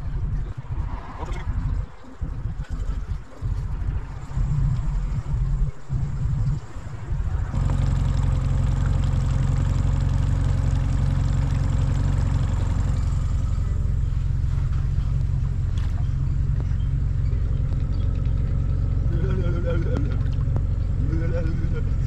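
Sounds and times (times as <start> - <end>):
boat motor droning: 1.2 - 22.0.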